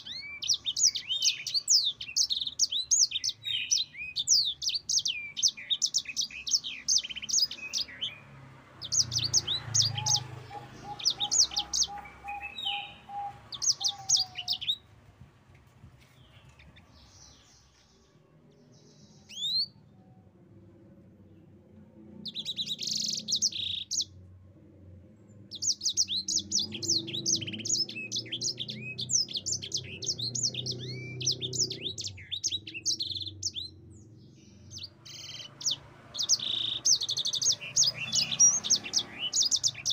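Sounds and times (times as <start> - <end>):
canary singing chirps and trills: 0.0 - 15.2, 15.9 - 39.9.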